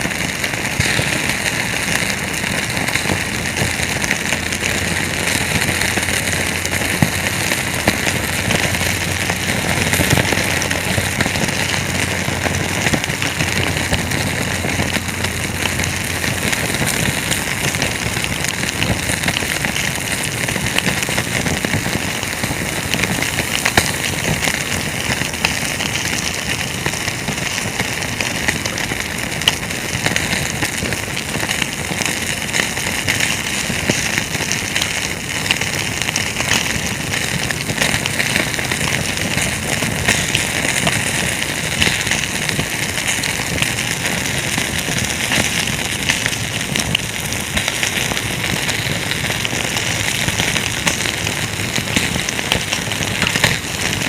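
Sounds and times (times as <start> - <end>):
campfire crackling: 0.0 - 54.0
fire pops: 0.0 - 54.0.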